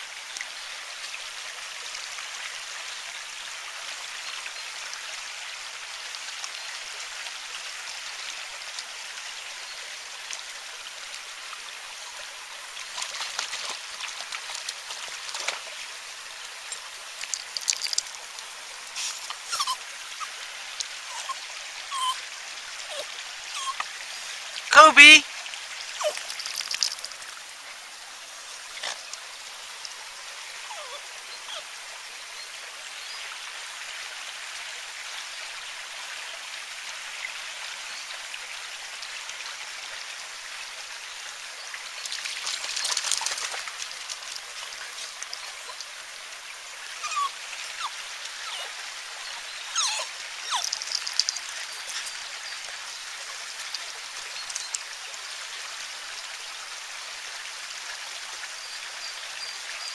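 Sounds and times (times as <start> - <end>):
woodland stream rushing: 0.0 - 59.9.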